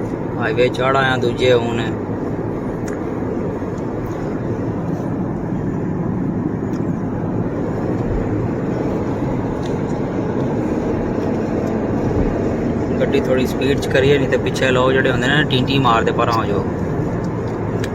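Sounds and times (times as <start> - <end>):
car engine hum: 0.0 - 17.9
road and tyre noise: 0.0 - 17.9.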